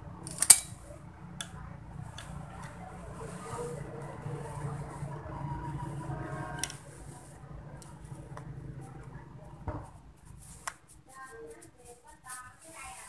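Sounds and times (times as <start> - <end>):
low background hum: 0.0 - 12.8.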